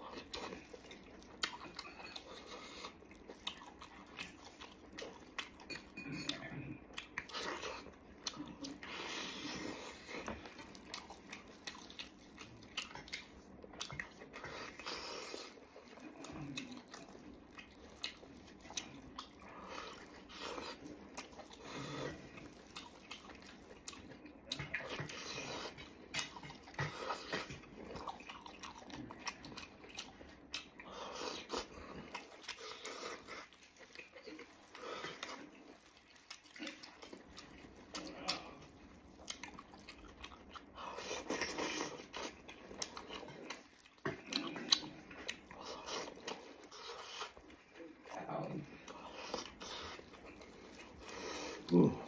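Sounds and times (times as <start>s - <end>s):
mouth chewing meat: 0.0s - 52.0s.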